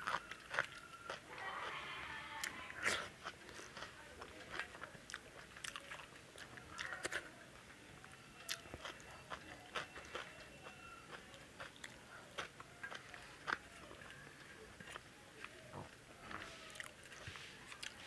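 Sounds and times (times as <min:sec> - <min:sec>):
person chewing: 0:00.0 - 0:01.8, 0:02.4 - 0:07.7, 0:08.4 - 0:18.0.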